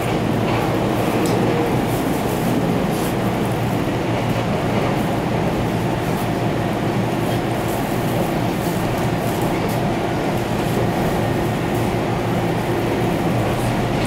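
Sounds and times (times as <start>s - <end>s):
train running noise inside car: 0.0s - 14.0s.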